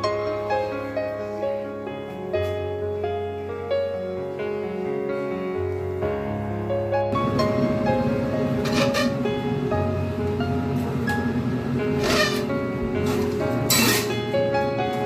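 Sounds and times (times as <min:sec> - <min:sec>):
slow melody of held notes: 0:00.0 - 0:13.7.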